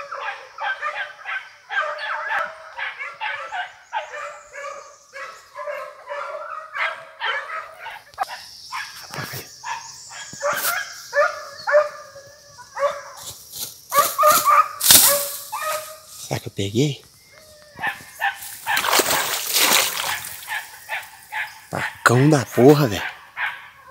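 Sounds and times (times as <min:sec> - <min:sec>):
hounds baying and yelping: 0:00.0 - 0:13.3, 0:13.9 - 0:16.2, 0:17.2 - 0:23.9.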